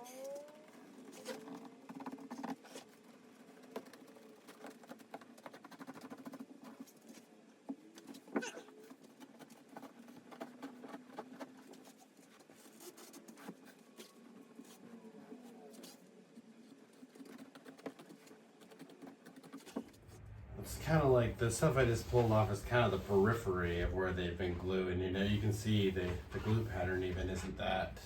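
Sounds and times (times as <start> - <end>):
scratching and rustling: 0.2 - 28.0.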